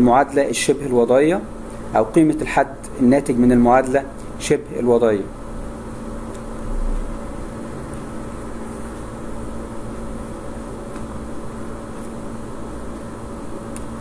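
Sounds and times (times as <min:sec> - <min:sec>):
low hum with steady tones: 0:00.0 - 0:14.0.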